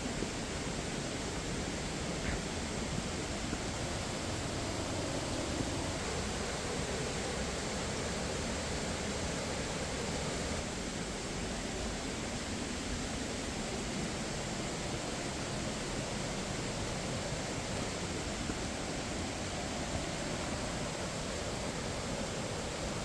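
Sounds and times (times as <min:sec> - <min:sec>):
falling and running water: 0:00.0 - 0:23.0.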